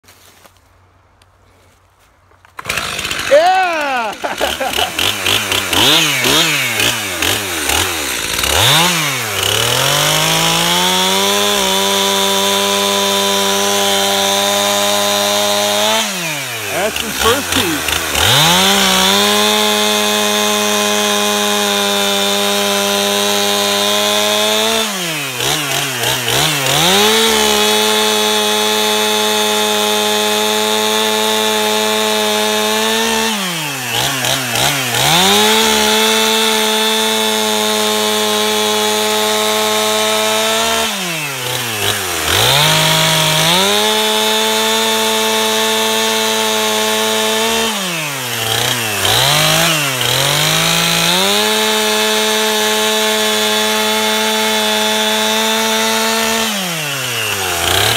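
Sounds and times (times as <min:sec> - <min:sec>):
chainsaw cutting log: 0:02.5 - 0:57.9.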